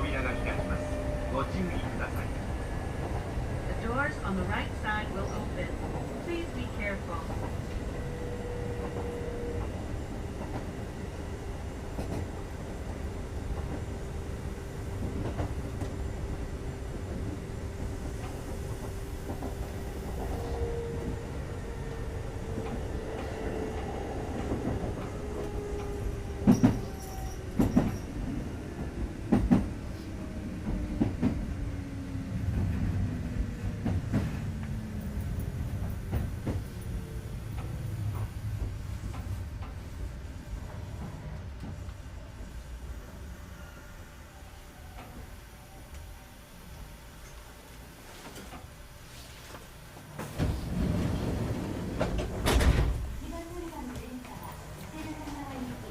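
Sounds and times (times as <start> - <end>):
train rumble: 0.0 - 55.9.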